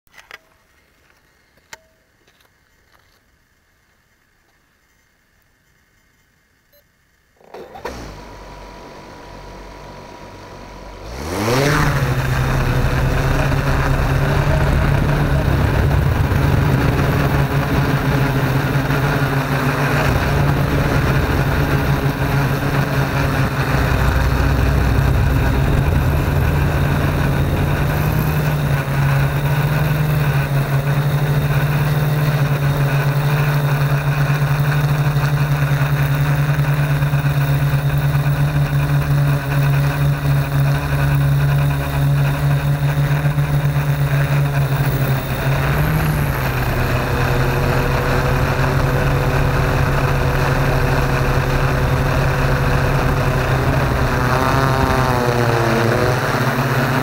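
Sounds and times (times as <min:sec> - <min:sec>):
drone motors humming: 0:06.8 - 0:57.0.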